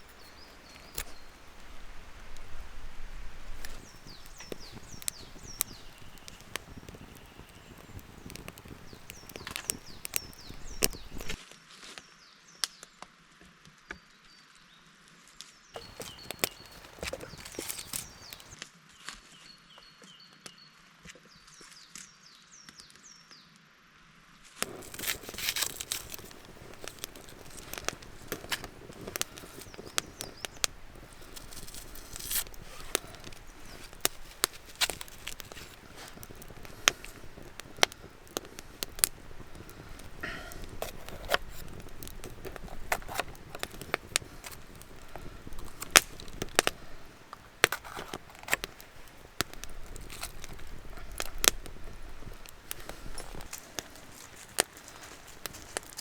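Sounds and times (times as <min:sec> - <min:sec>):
dry twigs crackling and snapping: 0:00.0 - 0:11.4, 0:15.8 - 0:18.6, 0:24.6 - 0:56.0.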